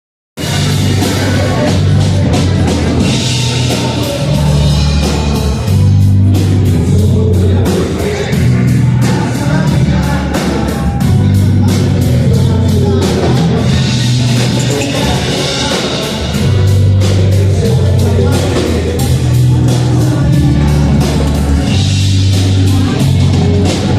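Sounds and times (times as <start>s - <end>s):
rock song with singing: 0.4s - 23.9s.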